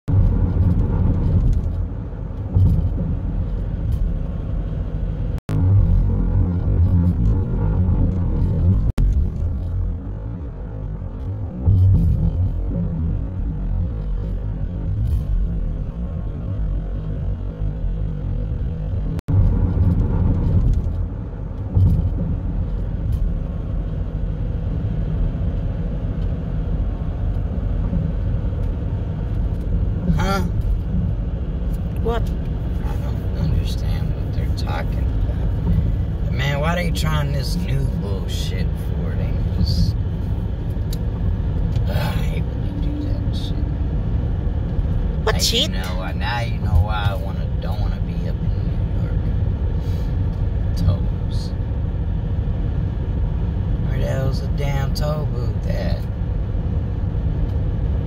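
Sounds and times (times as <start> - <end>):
car driving at highway speed: 0.1 - 58.0.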